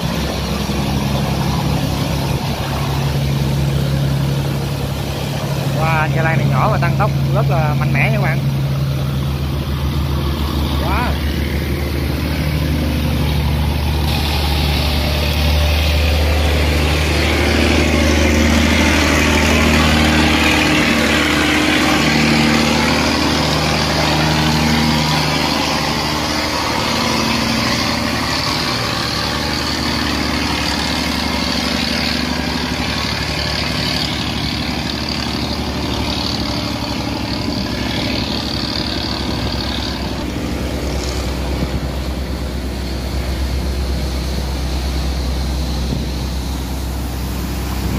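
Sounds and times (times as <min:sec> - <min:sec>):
barge engine running hard: 0:00.0 - 0:47.9
heavy rain hiss: 0:00.0 - 0:47.9.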